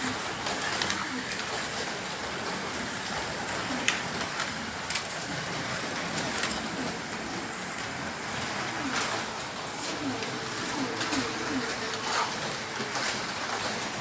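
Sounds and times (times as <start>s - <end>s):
slot car motors whirring: 0.0s - 14.0s.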